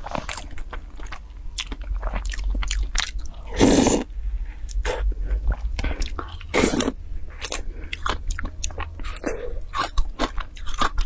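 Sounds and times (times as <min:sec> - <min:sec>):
crunching and chewing ice pop: 0:00.0 - 0:04.1, 0:05.4 - 0:11.0.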